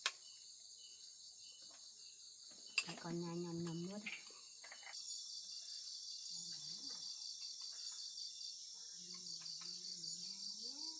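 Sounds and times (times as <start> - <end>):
insects chirping: 0.0 - 10.9.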